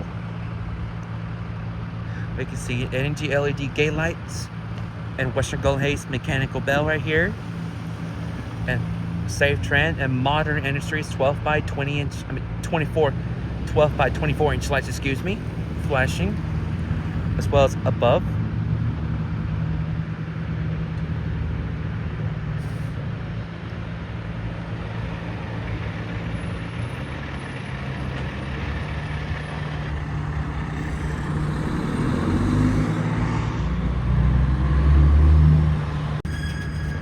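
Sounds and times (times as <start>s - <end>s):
heavy vehicle engines rumbling: 0.0s - 37.0s.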